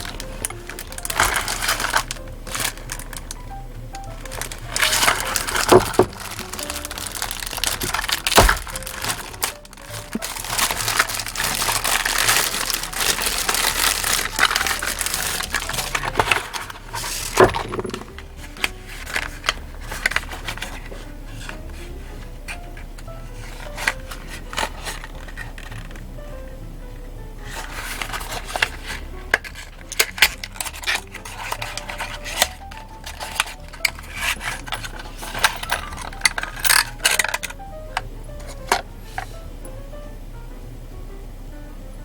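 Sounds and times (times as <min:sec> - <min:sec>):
handling clicks and knocks: 0:00.0 - 0:26.2, 0:27.5 - 0:39.8
rustling: 0:00.0 - 0:40.0
background music: 0:00.0 - 0:42.0.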